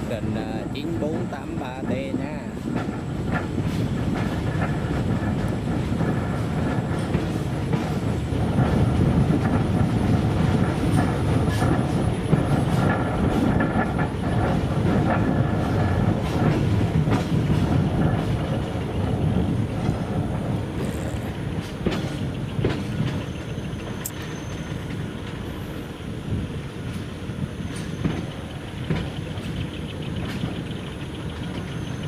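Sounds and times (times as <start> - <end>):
wheels clicking over rail joints: 0.0 - 25.6, 26.3 - 32.0
train wheels rumbling on rails: 0.0 - 32.0.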